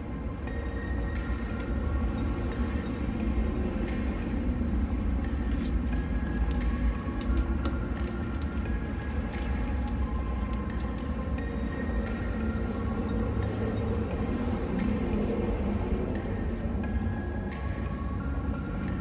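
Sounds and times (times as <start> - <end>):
engine running with low rumble: 0.0 - 19.0.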